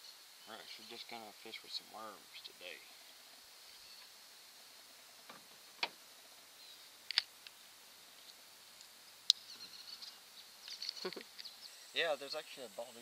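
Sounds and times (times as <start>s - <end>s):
faint high insect hum: 0.0s - 13.0s.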